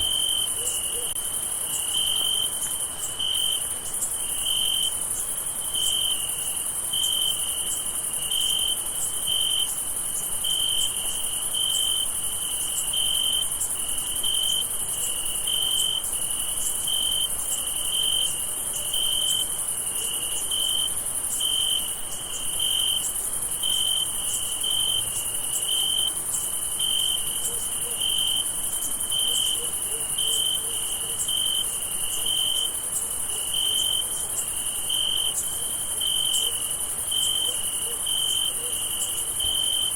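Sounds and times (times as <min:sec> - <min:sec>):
cricket chirping: 0:00.0 - 0:39.9
insect chorus: 0:00.0 - 0:39.9.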